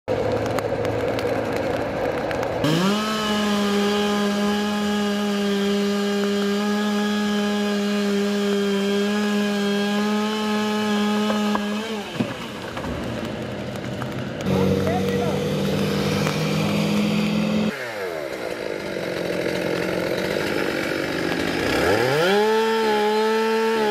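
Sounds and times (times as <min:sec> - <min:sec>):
chainsaw cutting: 0:00.2 - 0:23.9.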